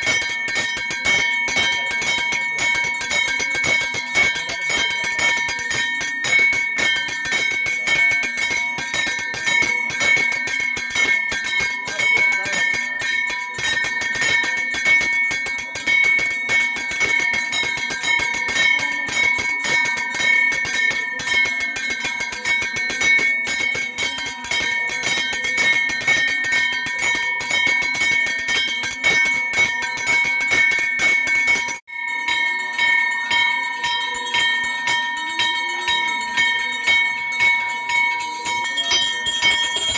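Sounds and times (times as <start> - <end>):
hand bell rung rapidly: 0.0 - 39.9.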